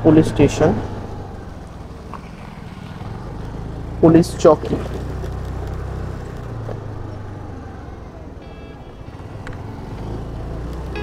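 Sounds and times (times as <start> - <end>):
motor scooter engine hum: 0.0 - 11.0
wind and road noise: 0.0 - 11.0.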